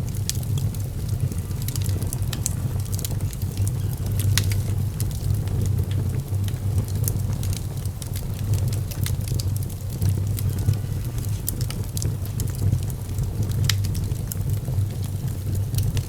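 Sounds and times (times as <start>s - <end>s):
fire crackling and popping: 0.0s - 16.0s
low fire rumble: 0.0s - 16.0s.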